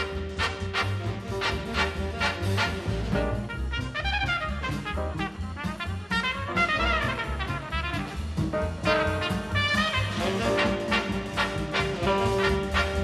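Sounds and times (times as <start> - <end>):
jazz music with brass: 0.0 - 13.0.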